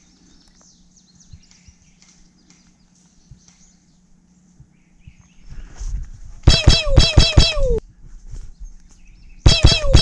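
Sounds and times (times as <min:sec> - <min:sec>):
birds chirping: 0:00.0 - 0:05.7, 0:06.5 - 0:07.8, 0:08.5 - 0:10.0.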